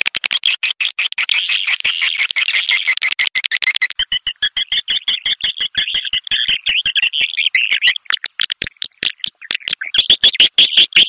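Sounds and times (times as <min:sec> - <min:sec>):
rapid high twittering chirps: 0:00.4 - 0:11.0.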